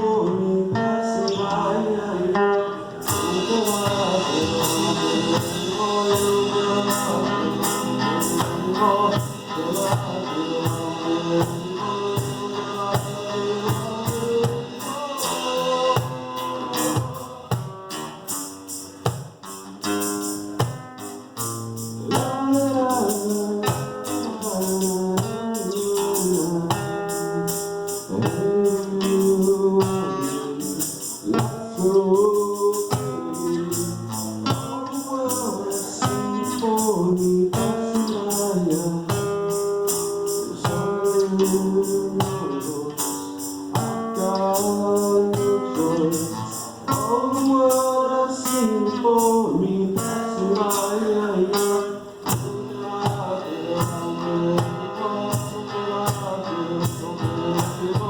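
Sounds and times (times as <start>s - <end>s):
man singing: 0.0s - 19.2s, 19.9s - 58.0s
acoustic guitar: 0.0s - 58.0s
tambourine beat: 3.0s - 58.0s.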